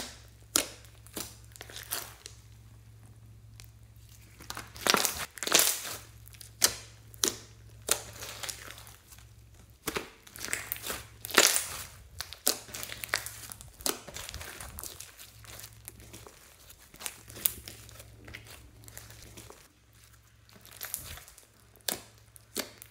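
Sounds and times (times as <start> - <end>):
sticky slime crackles and pops: 0.0 - 22.9.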